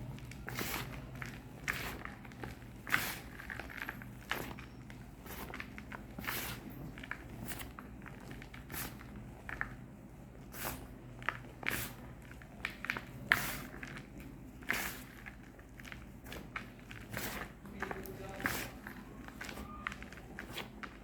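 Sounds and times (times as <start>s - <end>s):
chalk crunching and crumbling: 0.0s - 21.0s.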